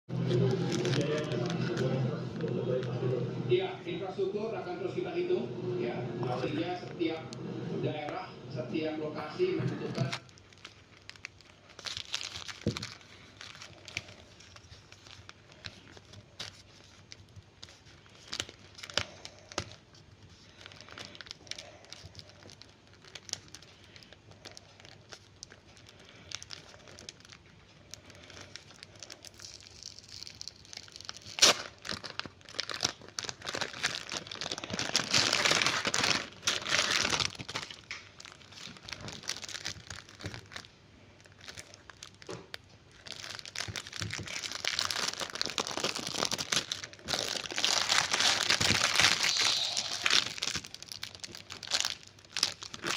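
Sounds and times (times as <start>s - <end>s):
food packaging crinkling: 0.1s - 3.1s, 10.0s - 52.9s.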